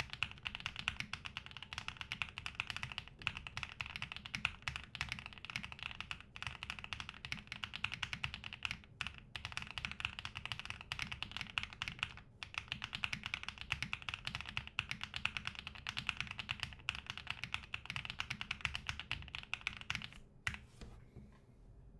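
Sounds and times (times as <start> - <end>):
mechanical keyboard typing: 0.0 - 20.6.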